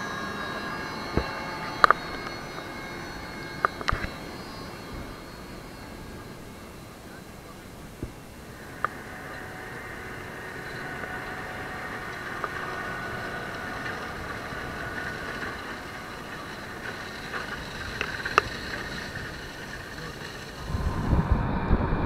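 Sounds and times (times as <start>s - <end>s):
tractor engine running: 0.0s - 20.9s
faint machinery whine: 0.0s - 22.0s.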